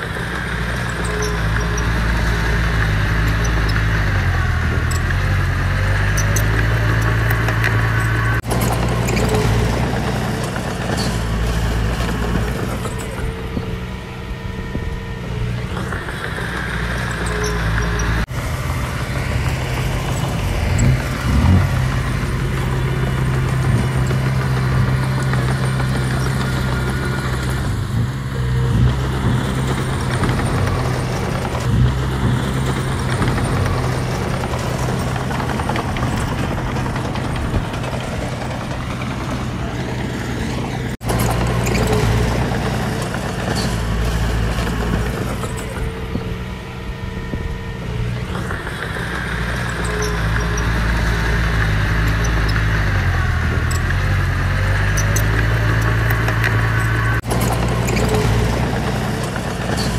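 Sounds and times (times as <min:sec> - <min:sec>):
heavy machinery diesel engine droning: 0:00.0 - 0:59.9.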